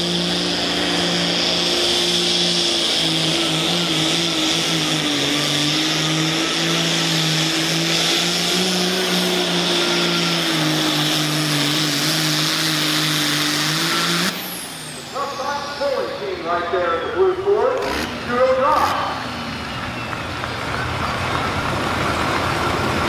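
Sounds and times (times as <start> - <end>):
diesel truck engine at high revs: 0.0 - 23.0.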